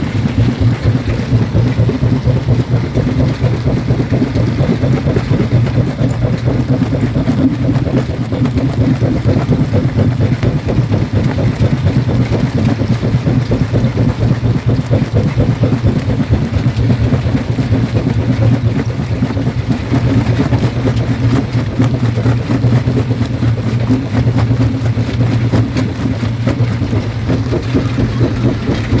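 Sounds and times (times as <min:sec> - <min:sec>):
jaw crusher drone: 0:00.0 - 0:29.0.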